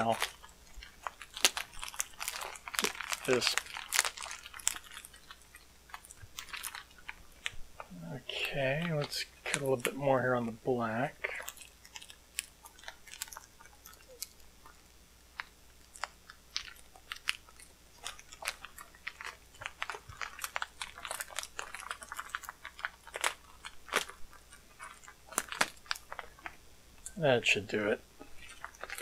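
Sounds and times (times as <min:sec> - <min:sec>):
plastic packaging crinkling: 0:00.0 - 0:26.6, 0:28.2 - 0:29.0.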